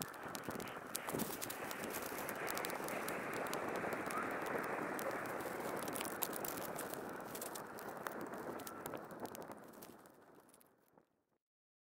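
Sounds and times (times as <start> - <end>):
campfire flames hissing: 0.0 - 10.8
fire crackling and popping: 0.0 - 11.2.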